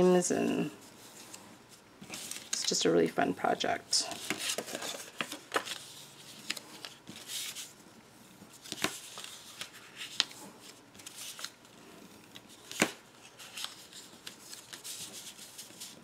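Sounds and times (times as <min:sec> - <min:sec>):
paper rustling and crinkling: 0:00.8 - 0:02.8, 0:04.0 - 0:07.8, 0:08.4 - 0:16.0.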